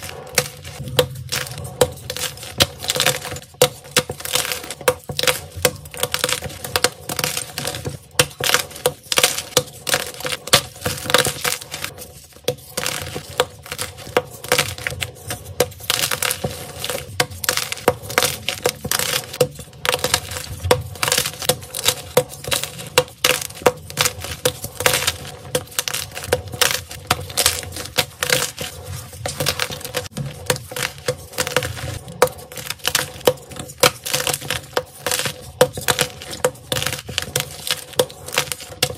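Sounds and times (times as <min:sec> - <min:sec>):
chalk blocks crunching and snapping: 0:00.0 - 0:38.9.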